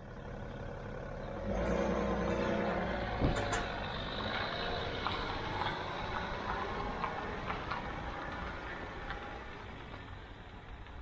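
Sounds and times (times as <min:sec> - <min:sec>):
car engine driving past: 0:00.2 - 0:10.1.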